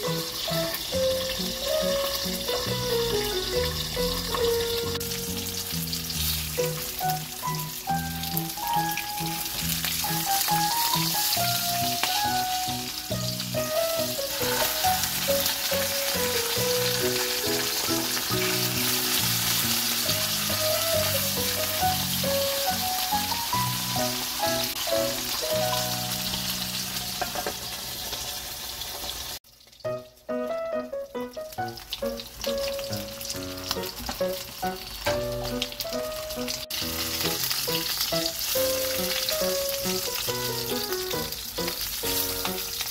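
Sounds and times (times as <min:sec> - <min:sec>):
background music: 0:00.0 - 0:27.2, 0:29.9 - 0:42.9
fish sizzling in a frying pan: 0:00.0 - 0:42.9.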